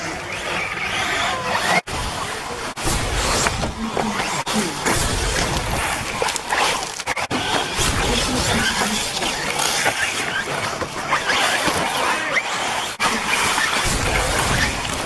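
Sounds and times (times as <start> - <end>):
rc car motors whining: 0.0 - 15.0
tyres on dirt: 0.0 - 15.0.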